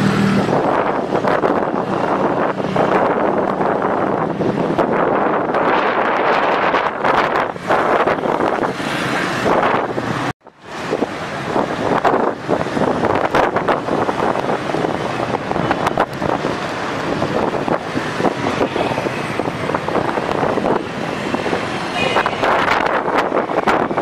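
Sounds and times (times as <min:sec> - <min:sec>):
strong gusting wind: 0:00.0 - 0:24.0
wind buffeting microphone: 0:00.0 - 0:24.0.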